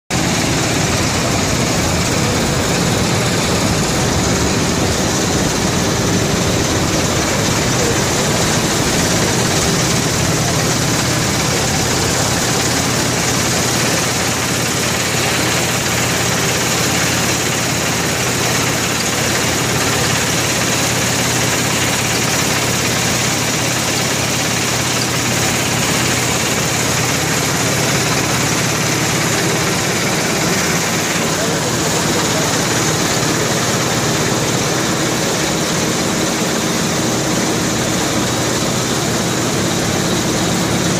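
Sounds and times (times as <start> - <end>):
machine hum: 0.1 - 40.9
hiss of material sifting: 0.2 - 36.5.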